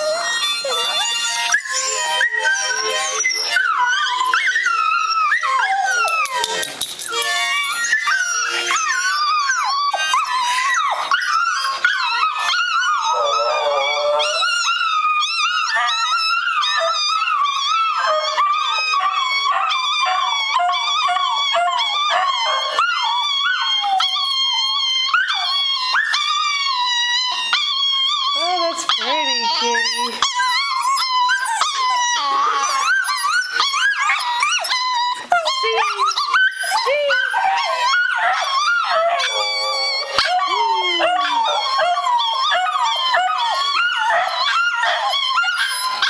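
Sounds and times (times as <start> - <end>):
dogs howling: 0.0 - 46.0.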